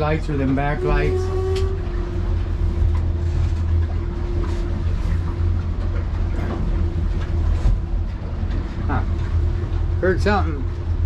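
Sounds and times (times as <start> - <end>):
outboard engines droning: 0.0 - 11.0
water and hull noise: 0.0 - 11.0.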